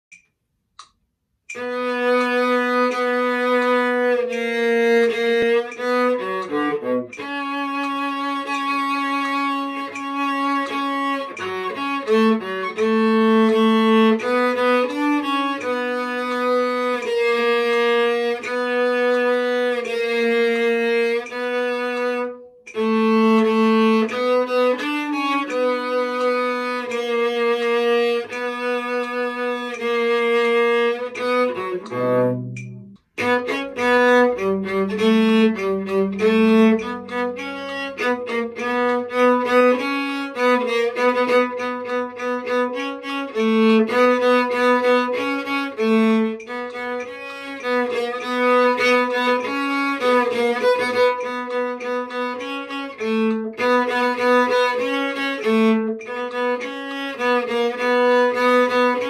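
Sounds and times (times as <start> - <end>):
solo bowed cello melody: 0.8 - 59.0.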